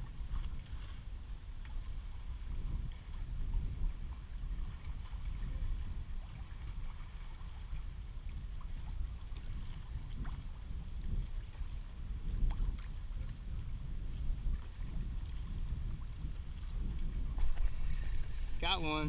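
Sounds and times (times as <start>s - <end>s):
water lapping against kayak hull: 0.0s - 19.0s
wind rumbling on microphone: 0.0s - 19.0s.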